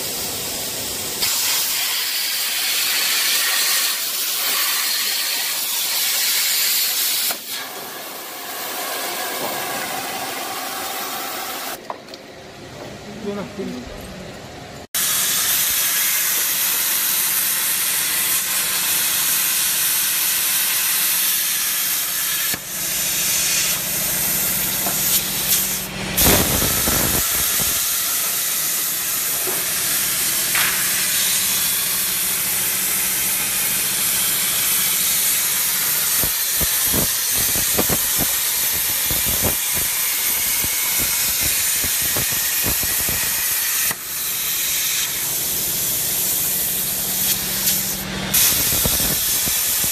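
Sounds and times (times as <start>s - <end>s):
plasma torch hissing: 0.0s - 11.8s, 15.0s - 49.9s.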